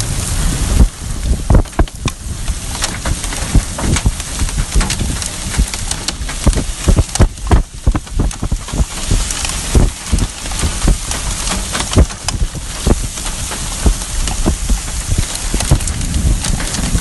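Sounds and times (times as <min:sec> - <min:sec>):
rain pouring: 0:00.0 - 0:17.0
loud thuds and knocks: 0:00.8 - 0:02.2, 0:02.8 - 0:17.0.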